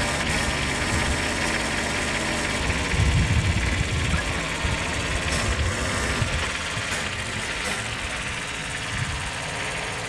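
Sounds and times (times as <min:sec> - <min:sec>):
front-loader hydraulics: 0:00.0 - 0:10.0
tractor diesel engine running: 0:00.0 - 0:10.0.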